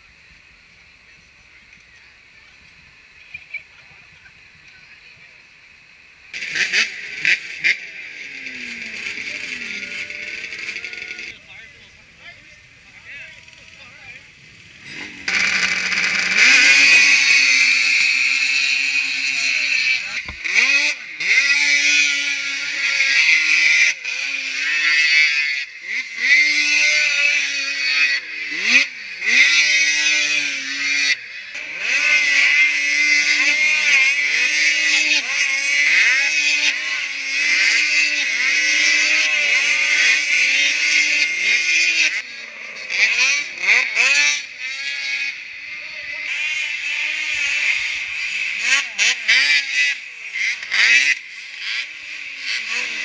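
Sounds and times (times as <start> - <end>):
snowmobile engines revving: 0.9 - 53.0.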